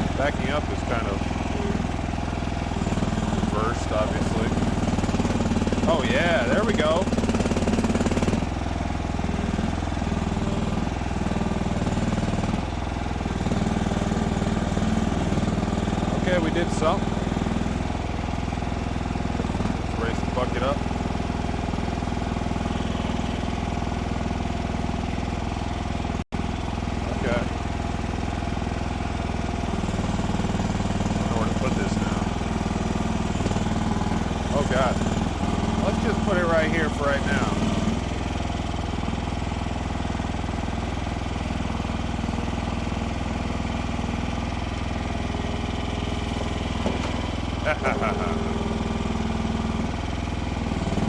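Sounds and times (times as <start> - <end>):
skid steer engine running: 0.0 - 51.0.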